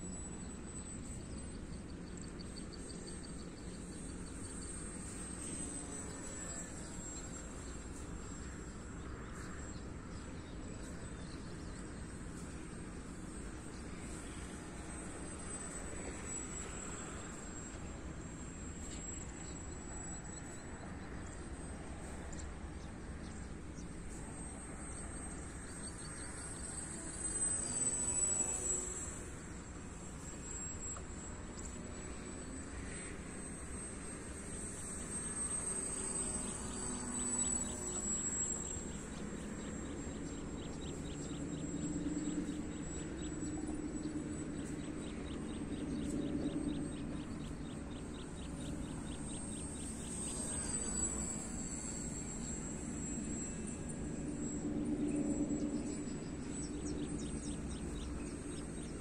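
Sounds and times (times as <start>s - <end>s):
model plane motor whine: 0.0s - 59.0s.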